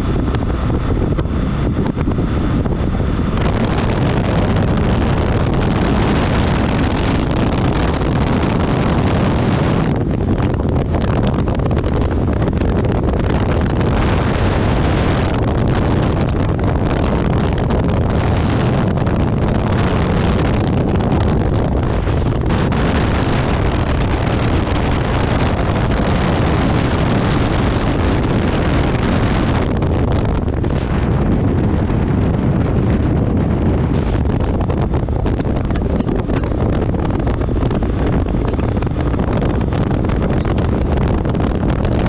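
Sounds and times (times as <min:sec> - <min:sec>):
motorcycle engine drone: 0:00.0 - 0:42.0
wind rushing over microphone: 0:00.0 - 0:42.0.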